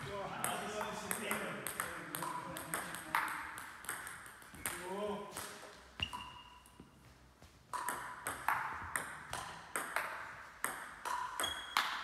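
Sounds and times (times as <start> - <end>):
table tennis ball hitting table and bats: 0.0 - 7.0, 7.6 - 12.0.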